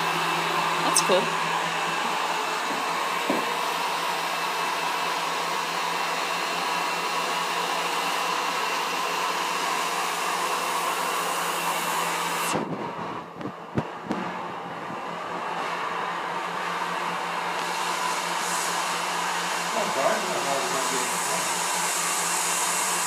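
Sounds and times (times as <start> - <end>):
electric machine whirring: 0.0 - 23.0.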